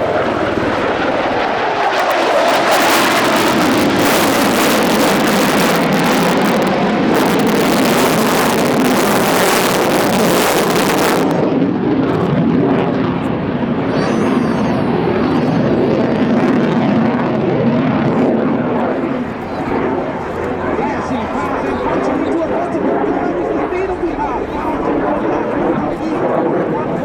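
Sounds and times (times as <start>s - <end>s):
fighter jet flying past: 0.0s - 14.0s, 14.6s - 27.0s.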